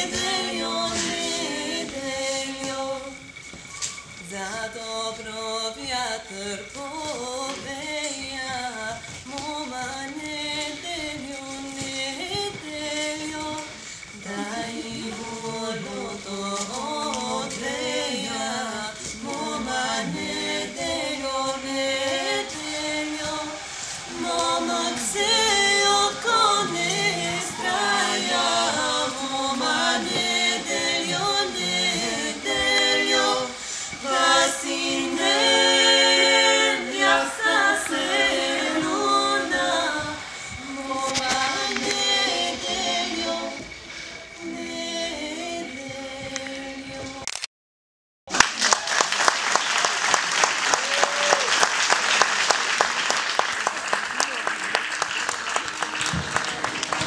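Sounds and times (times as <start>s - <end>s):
vocal trio singing in harmony: 0.0s - 47.2s.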